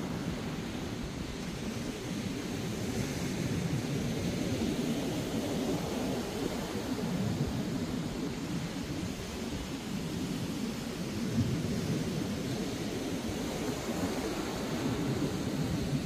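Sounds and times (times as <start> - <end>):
ocean surf breaking on beach: 0.0 - 16.0.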